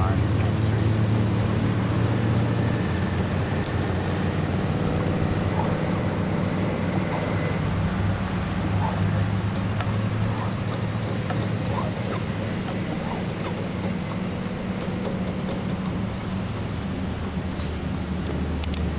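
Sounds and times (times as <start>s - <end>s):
constant hum: 0.0s - 18.9s
tramway car rumbling on ropes: 0.0s - 18.9s.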